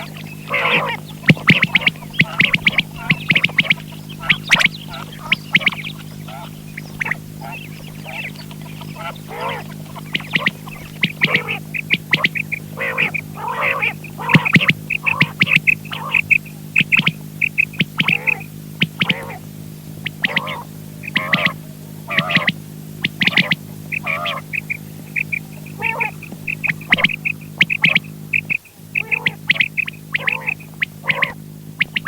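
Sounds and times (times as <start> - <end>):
quail chirping: 0.0 - 19.4, 20.0 - 32.0
steady electrical hum: 0.0 - 32.0.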